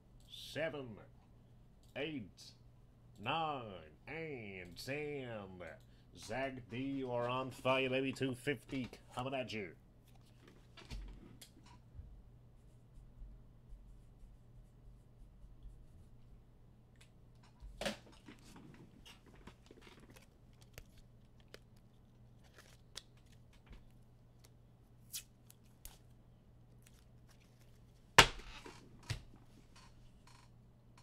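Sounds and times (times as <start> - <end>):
faint low hum: 0.0 - 31.0.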